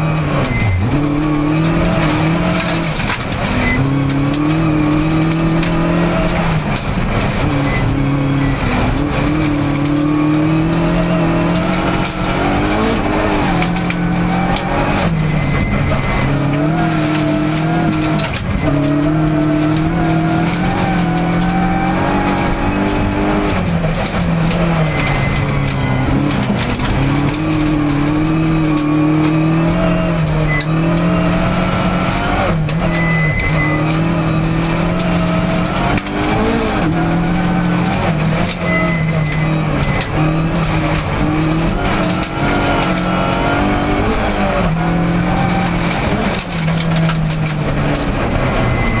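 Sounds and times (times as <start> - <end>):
rally car engine revving: 0.0 - 49.0
tyres on gravel: 0.0 - 49.0.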